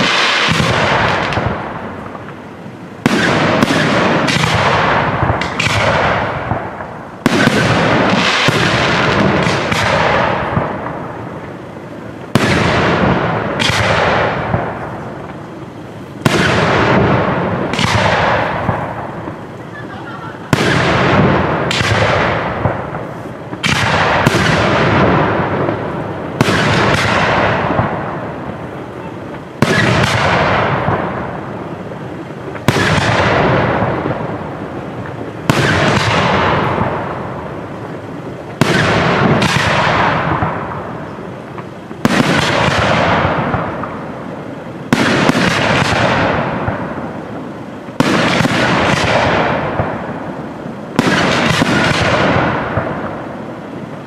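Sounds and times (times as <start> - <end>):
firework shells bursting: 0.0 - 54.0.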